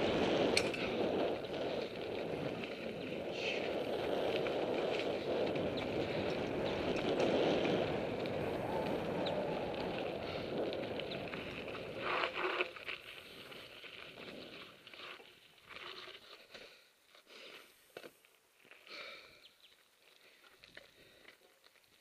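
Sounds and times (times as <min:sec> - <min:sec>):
bike scraping: 0:00.0 - 0:19.0
bike tyres on gravel trail: 0:00.0 - 0:22.0.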